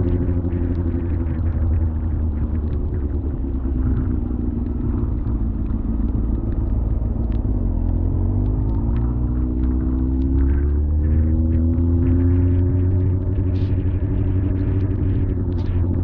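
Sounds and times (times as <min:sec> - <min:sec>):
light ticks: 0:00.0 - 0:16.0
motorcycle engine running: 0:00.0 - 0:16.0.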